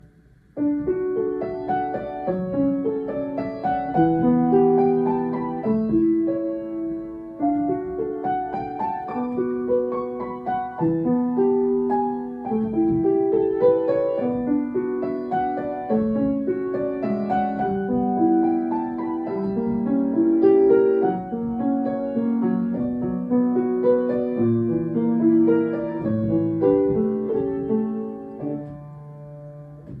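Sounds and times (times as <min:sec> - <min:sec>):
solo piano melody: 0:00.0 - 0:30.0.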